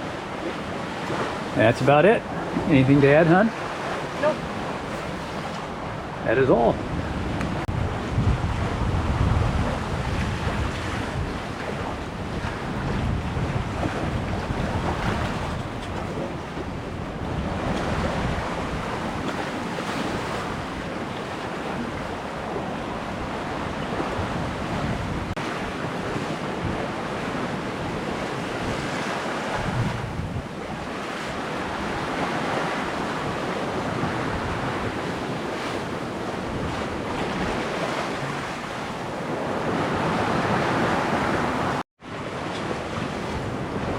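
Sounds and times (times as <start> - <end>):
water rushing along boat hull: 0.0 - 43.9
wind buffeting microphone: 0.0 - 43.9.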